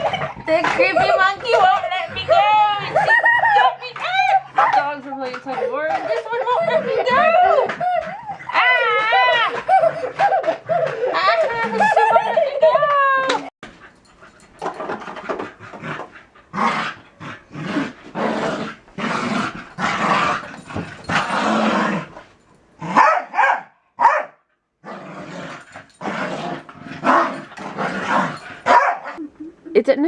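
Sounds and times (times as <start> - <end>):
dogs growling in play: 0.0 - 12.4, 13.6 - 23.1, 24.8 - 29.2.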